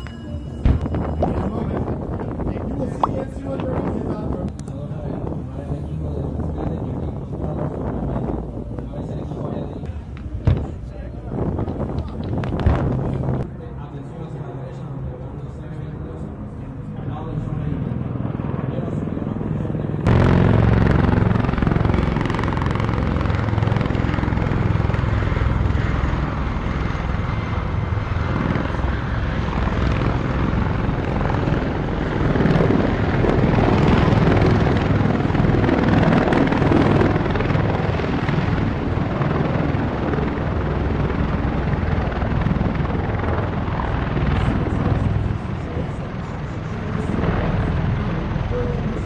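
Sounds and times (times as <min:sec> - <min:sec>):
aircraft rotor and turbine noise: 0:00.0 - 0:49.0.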